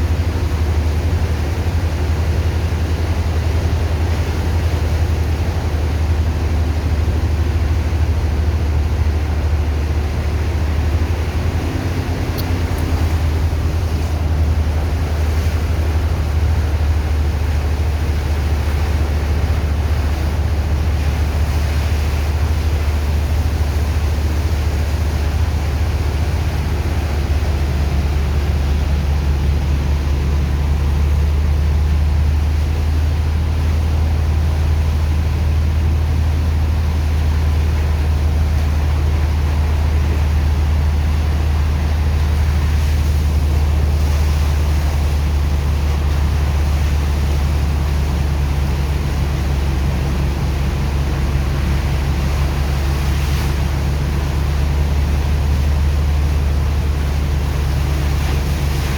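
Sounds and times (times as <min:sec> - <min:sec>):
engine deep hum: 0:00.0 - 0:58.9
pump water rushing hiss: 0:00.0 - 0:58.9.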